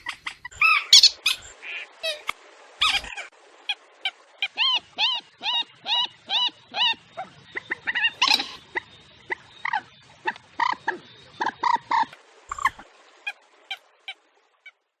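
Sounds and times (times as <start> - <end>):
waterbird calls: 0.0 - 14.9.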